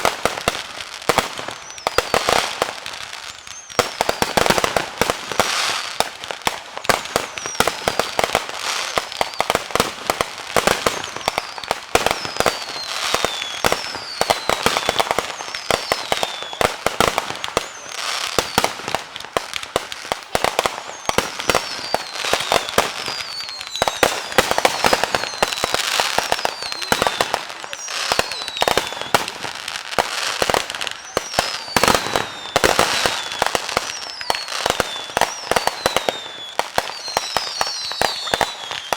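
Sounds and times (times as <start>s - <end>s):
falling firework whistles: 0.0s - 38.9s
fireworks crackling and popping: 0.0s - 38.9s.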